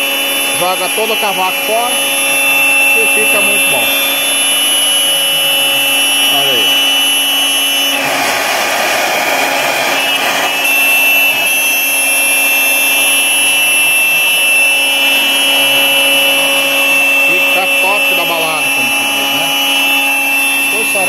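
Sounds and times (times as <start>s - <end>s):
rough cutting noise: 0.0s - 21.0s
router spindle high whine: 0.0s - 21.0s.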